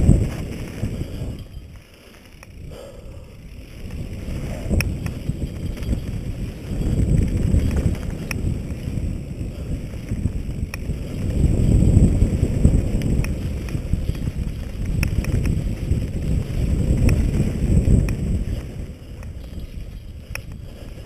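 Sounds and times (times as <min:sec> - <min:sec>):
sharp ticks: 0:00.0 - 0:21.0
wind buffeting microphone: 0:00.0 - 0:21.0.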